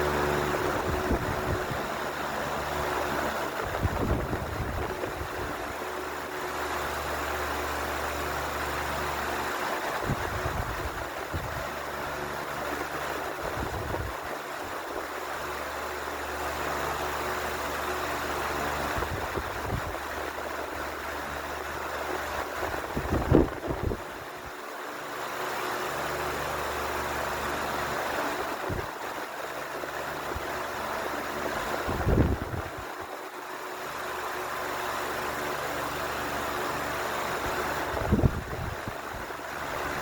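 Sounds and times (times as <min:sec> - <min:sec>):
fan air rush: 0:00.0 - 0:40.0
low motor hum: 0:00.0 - 0:40.0.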